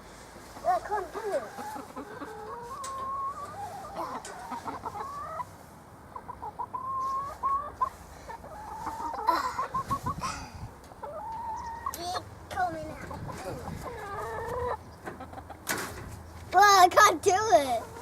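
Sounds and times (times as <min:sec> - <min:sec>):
hens clucking: 0:00.4 - 0:16.5, 0:17.5 - 0:18.0.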